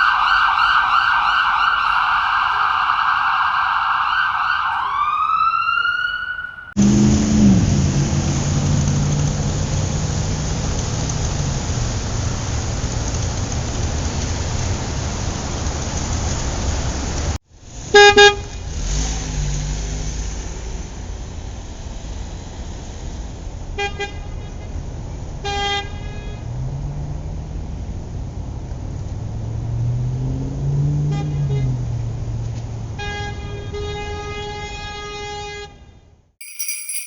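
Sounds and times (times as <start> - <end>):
street traffic: 0.0 - 37.0.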